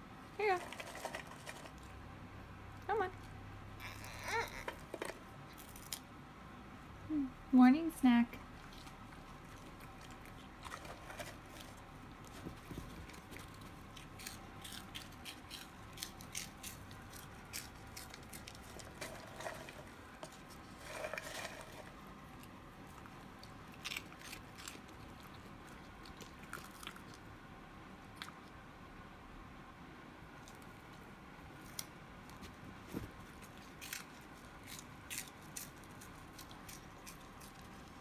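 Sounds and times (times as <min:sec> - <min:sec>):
crunching and chewing snacks: 0:00.4 - 0:02.0, 0:03.1 - 0:06.1, 0:08.4 - 0:27.4, 0:28.1 - 0:28.6, 0:30.4 - 0:38.0.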